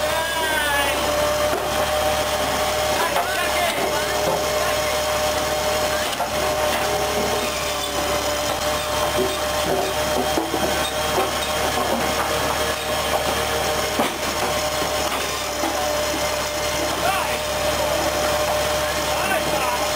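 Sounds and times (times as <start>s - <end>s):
saw-splitter machine humming: 0.0s - 19.9s
blade cutting through logs: 1.0s - 19.9s.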